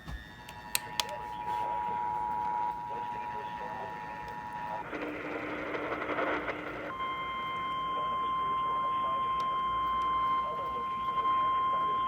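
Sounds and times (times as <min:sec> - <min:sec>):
steady alarm tone: 0:00.0 - 0:05.4, 0:06.2 - 0:12.0.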